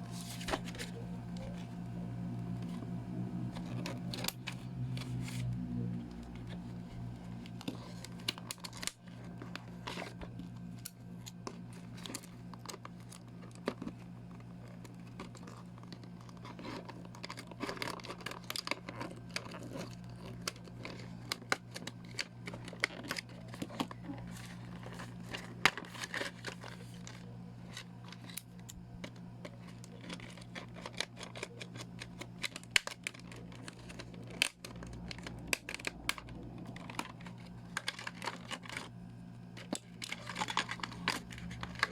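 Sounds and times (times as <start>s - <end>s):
packaging crinkling and tearing: 0.0s - 41.9s
steady low hum: 0.0s - 41.9s.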